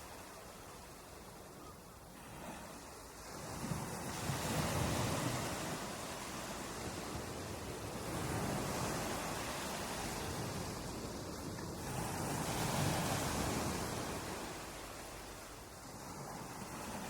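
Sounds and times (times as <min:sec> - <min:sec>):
ocean surf breaking on shore: 0:00.0 - 0:17.0.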